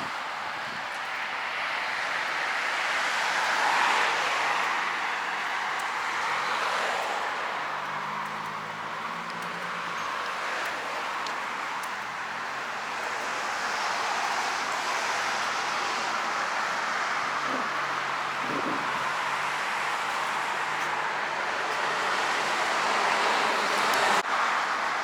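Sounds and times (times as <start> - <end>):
traffic tyres and engines hissing: 0.0 - 25.0.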